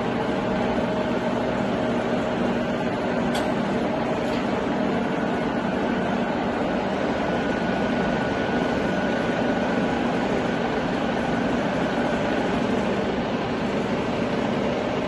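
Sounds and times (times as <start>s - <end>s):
milling machine whirring: 0.0s - 15.0s.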